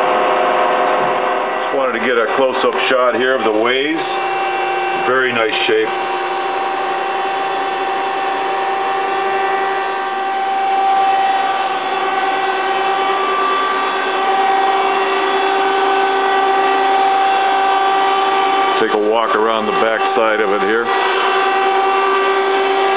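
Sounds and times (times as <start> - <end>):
lathe humming and whining: 0.0 - 22.9.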